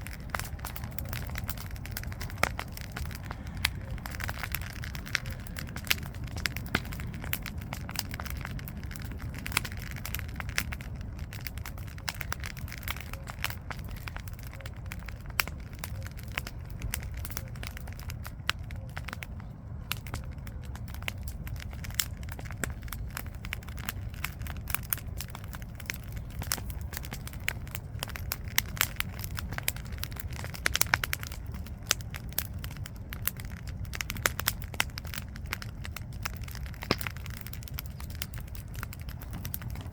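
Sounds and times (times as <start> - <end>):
campfire crackling: 0.0 - 39.9
steady low rumble: 0.0 - 39.9.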